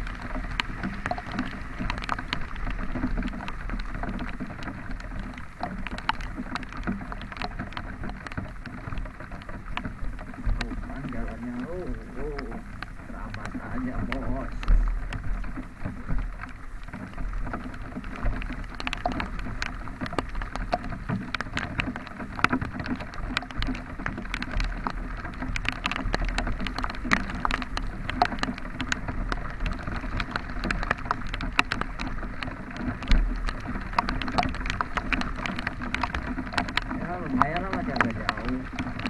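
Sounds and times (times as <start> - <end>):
low road rumbles: 0.0 - 39.0
raindrops ticking: 0.0 - 39.0.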